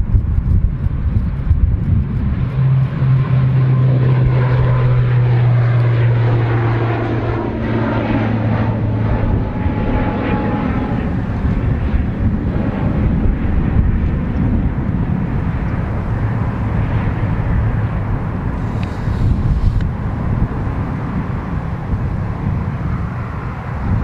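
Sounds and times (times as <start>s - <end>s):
low rumble: 0.0s - 24.0s
propellers droning: 0.0s - 24.0s.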